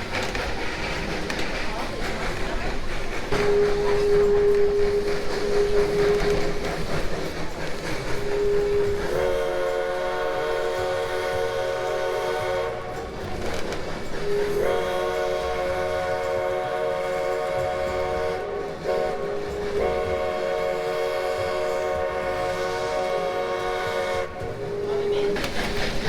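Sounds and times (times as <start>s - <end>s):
moving train rumble: 0.0s - 26.0s
steam locomotive chime whistle: 3.3s - 26.0s.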